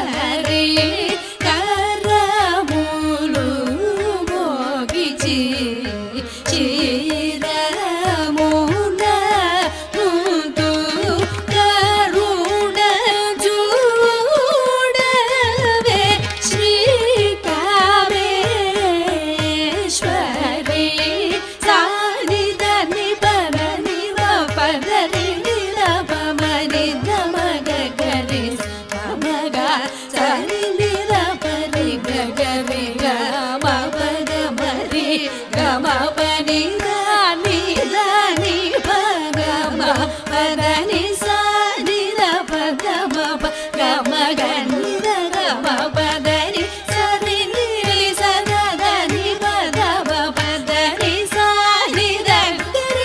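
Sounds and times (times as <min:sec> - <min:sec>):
ornamented vocal singing: 0:00.0 - 0:53.0.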